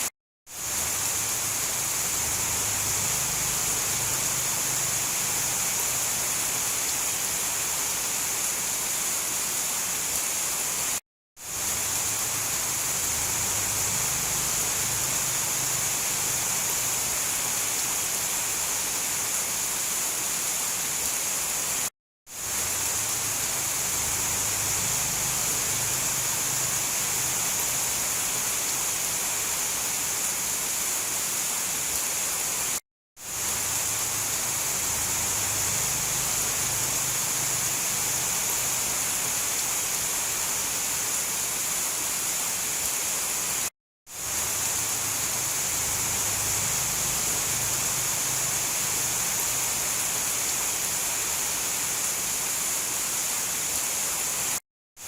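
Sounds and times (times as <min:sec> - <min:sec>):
rain hiss: 0:00.0 - 0:54.6.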